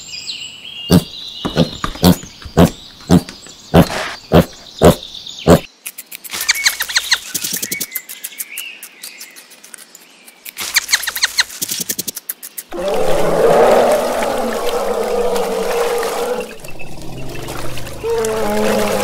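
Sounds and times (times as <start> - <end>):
birds chirping: 0.0 - 13.8, 14.8 - 19.0.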